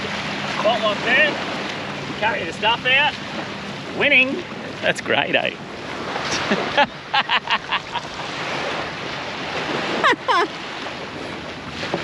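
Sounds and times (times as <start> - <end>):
small waves lapping on sand: 0.0 - 12.0.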